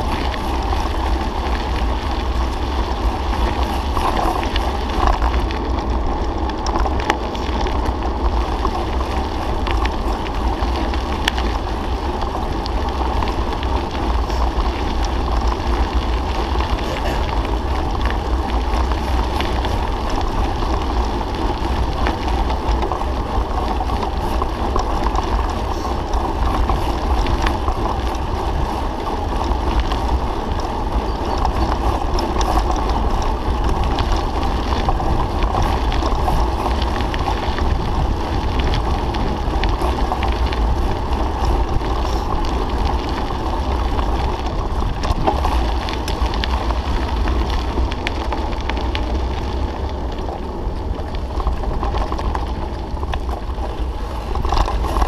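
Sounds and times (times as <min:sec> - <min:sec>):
bike ticks and rattles: 0:00.0 - 0:55.0
bike tyre noise: 0:00.0 - 0:55.0
wind rumble on microphone: 0:00.0 - 0:55.0.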